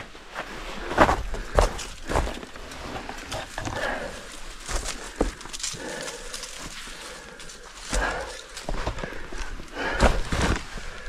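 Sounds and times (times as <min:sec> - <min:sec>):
boots stepping on rocks: 0:00.4 - 0:11.0
rocks knocking and clattering: 0:00.8 - 0:10.7.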